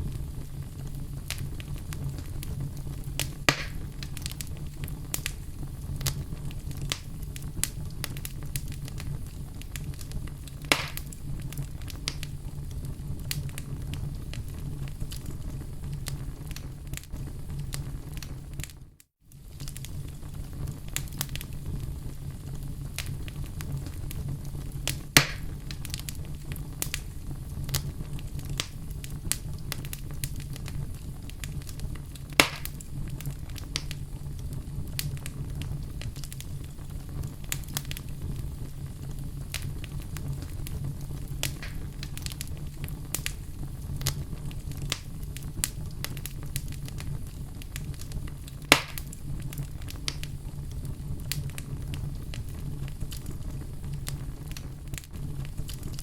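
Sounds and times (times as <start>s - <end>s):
loud fire pops: 0.0s - 56.0s
wood fire crackling: 0.0s - 56.0s.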